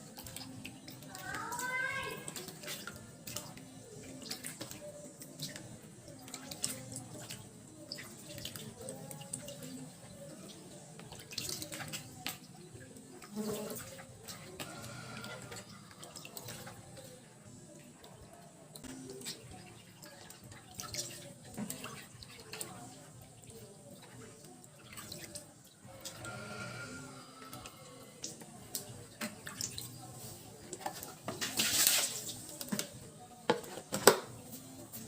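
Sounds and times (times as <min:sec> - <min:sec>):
water splashing in a sink: 0:00.0 - 0:35.0.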